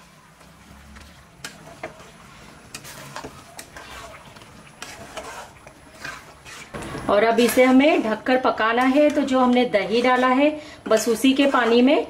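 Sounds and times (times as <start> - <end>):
ladle stirring thick sauce: 0.0 - 12.0
soft sizzle: 0.0 - 12.0.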